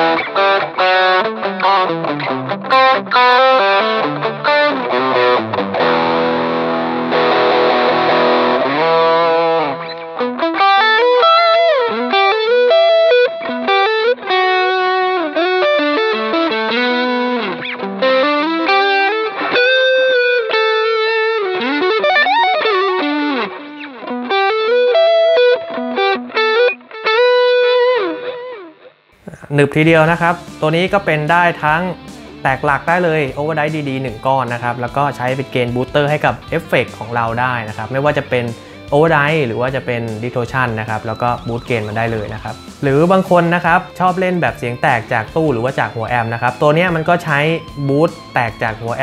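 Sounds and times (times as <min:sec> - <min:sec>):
overdriven electric guitar: 0:00.0 - 0:49.0.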